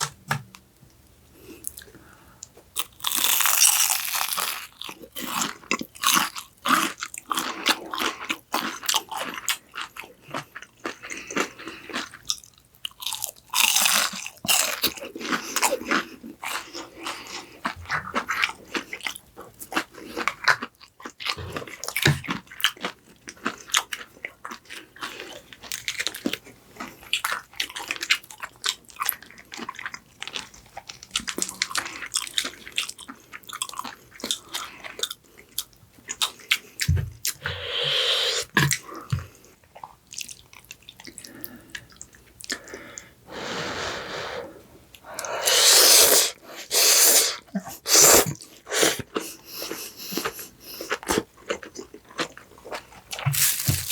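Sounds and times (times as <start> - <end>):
crunching of fried food being chewed: 1.4 - 37.5, 38.5 - 43.2, 44.9 - 53.9.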